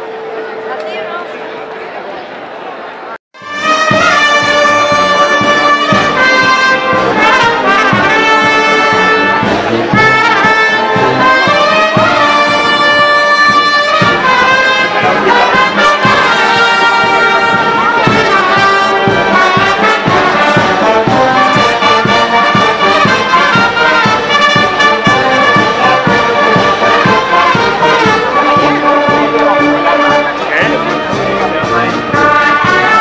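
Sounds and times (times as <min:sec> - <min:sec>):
brass band playing: 0:03.4 - 0:33.0.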